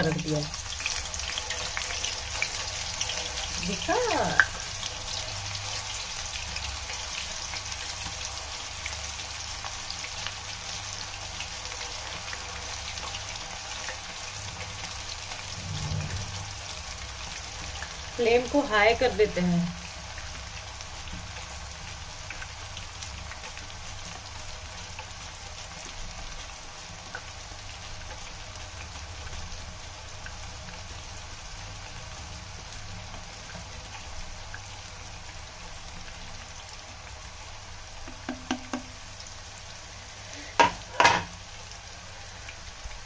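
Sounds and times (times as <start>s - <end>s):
frying in hot oil sizzling: 0.0s - 43.0s.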